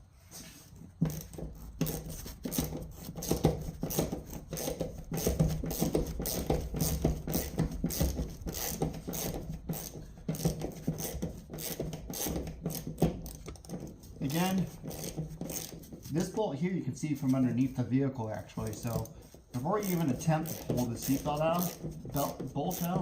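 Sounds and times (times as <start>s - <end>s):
tool scraping and rattling on metal: 0.4s - 23.0s
hand ratchet clicking: 1.1s - 16.4s, 18.5s - 23.0s.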